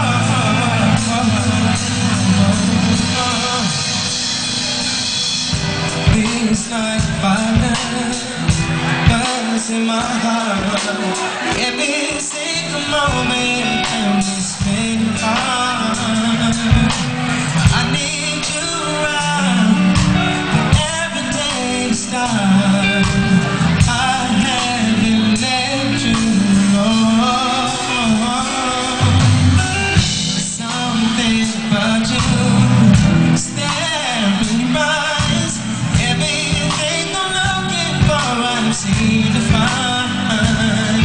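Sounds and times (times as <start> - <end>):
band playing: 0.0 - 41.0
man singing into a microphone: 0.0 - 41.0
steady drum beat: 0.0 - 41.0.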